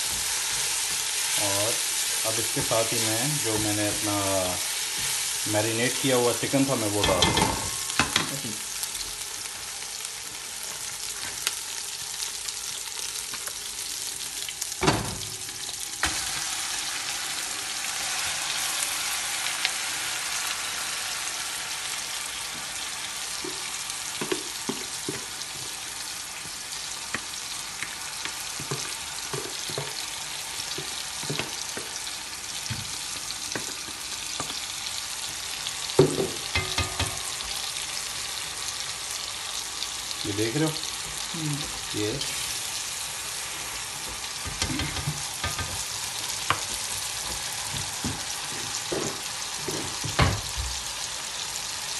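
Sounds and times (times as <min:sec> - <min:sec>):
onions sizzling in oil: 0:00.0 - 0:51.9.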